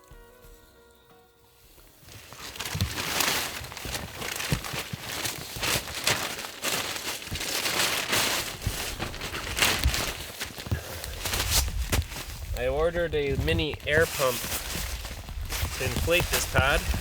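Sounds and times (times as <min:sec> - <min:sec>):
nylon fabric crinkling: 0:01.5 - 0:17.0
sharp crackles: 0:01.8 - 0:17.0.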